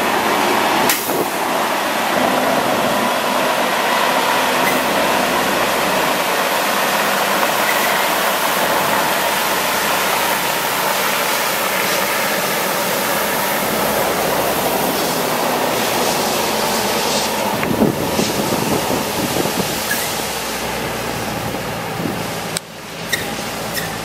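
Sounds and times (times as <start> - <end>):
diesel engine running: 0.0 - 24.0
water spraying in a loud hiss: 0.0 - 24.0.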